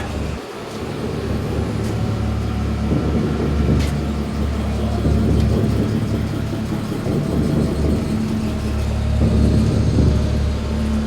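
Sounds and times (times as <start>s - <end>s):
constant low hum: 0.0s - 11.0s
steady low rumble: 0.0s - 11.0s.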